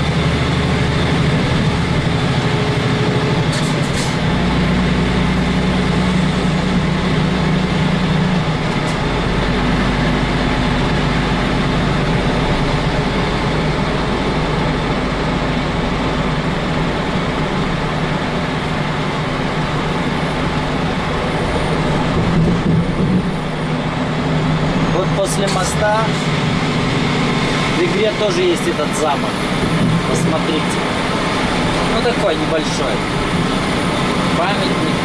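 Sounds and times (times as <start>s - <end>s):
truck diesel engine running: 0.0s - 35.0s
tyre and road noise: 0.0s - 35.0s.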